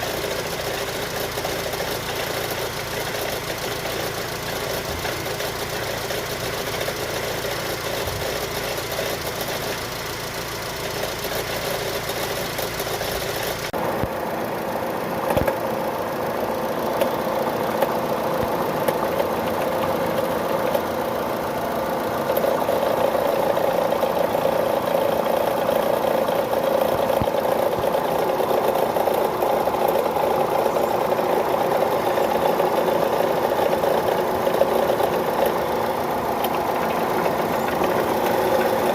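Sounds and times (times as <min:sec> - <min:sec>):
engine clicks: 0:00.0 - 0:14.2, 0:15.2 - 0:15.8, 0:16.7 - 0:38.9
car engine idling: 0:00.0 - 0:38.9.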